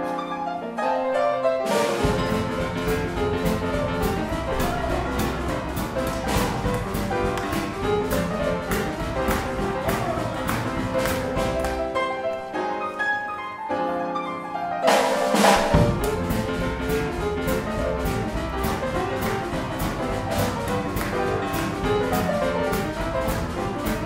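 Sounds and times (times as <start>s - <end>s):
boogie-woogie piano: 0.0s - 24.0s
drums keeping a steady beat: 1.7s - 11.9s, 14.9s - 24.0s.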